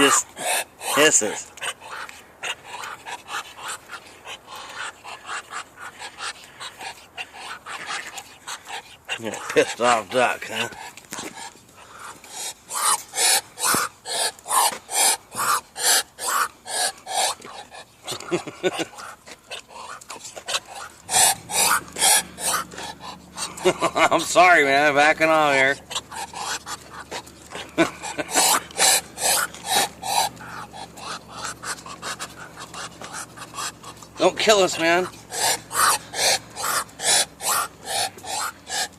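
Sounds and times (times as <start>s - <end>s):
duck hissing: 0.0s - 38.9s.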